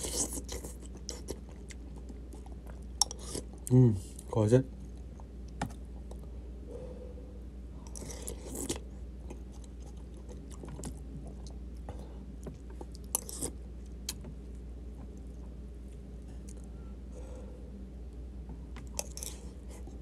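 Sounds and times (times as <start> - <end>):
person chewing food: 0.0 - 6.3, 7.8 - 16.8, 18.8 - 20.0.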